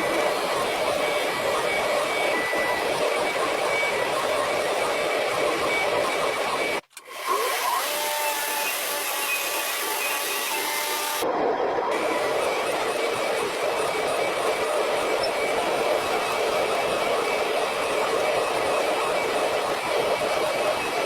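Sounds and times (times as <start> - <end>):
machine motor whirring: 0.0 - 21.0.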